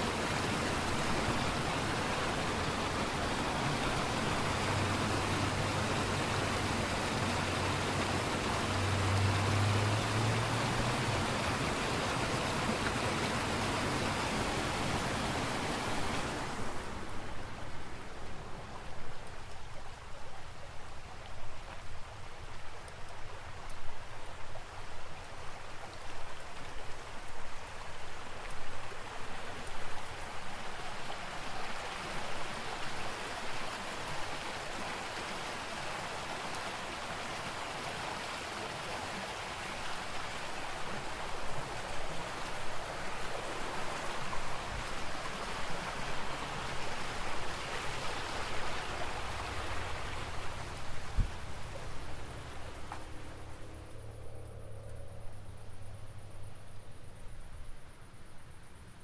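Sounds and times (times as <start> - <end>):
forest stream rushing: 0.0 - 59.0.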